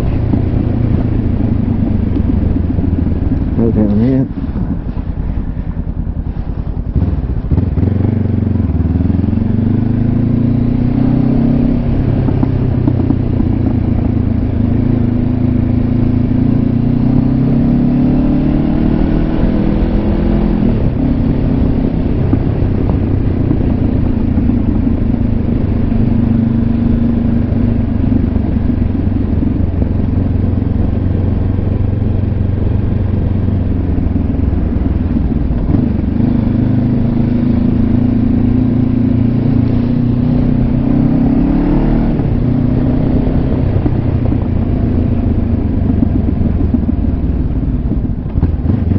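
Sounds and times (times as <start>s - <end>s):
motorcycle engine accelerating: 0.0s - 48.9s
wind noise: 0.0s - 48.9s.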